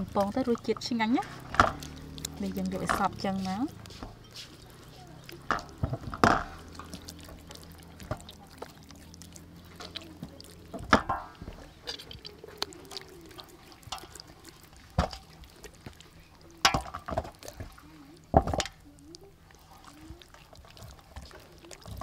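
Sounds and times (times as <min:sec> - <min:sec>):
wet squelches of raw chicken: 0:00.0 - 0:22.0.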